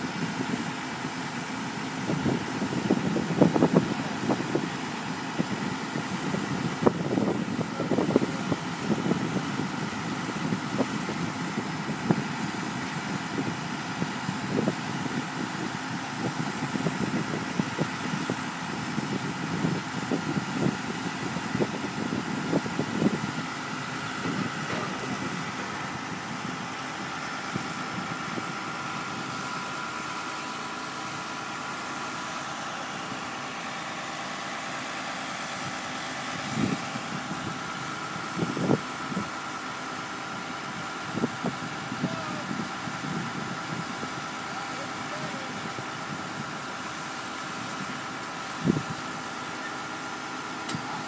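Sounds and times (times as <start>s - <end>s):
construction machine engine idling: 0.0s - 51.0s.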